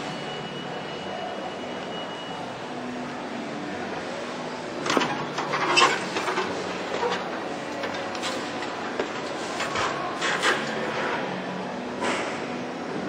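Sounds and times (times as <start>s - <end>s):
exhibition hall background noise: 0.0s - 13.0s.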